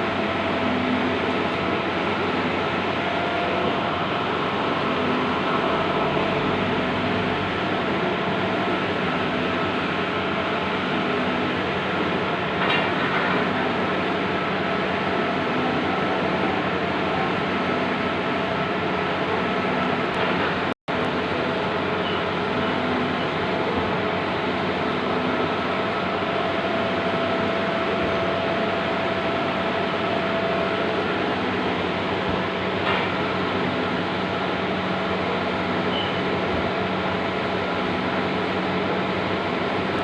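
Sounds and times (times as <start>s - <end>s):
printer mechanical whir and hum: 0.0s - 40.0s.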